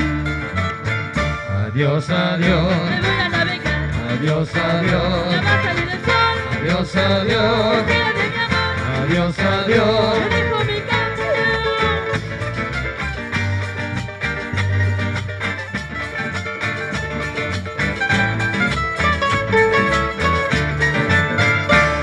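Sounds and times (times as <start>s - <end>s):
low bass line: 0.0s - 22.0s
string band playing lively tune: 0.0s - 22.0s.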